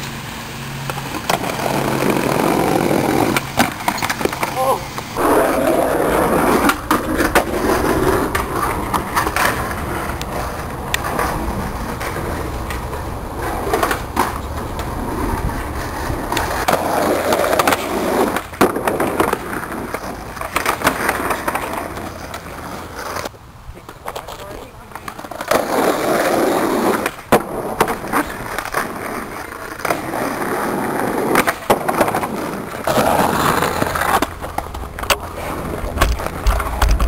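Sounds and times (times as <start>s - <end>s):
skateboard wheels rolling on asphalt: 0.0s - 37.0s
skateboard clacking on ground: 0.8s - 37.0s.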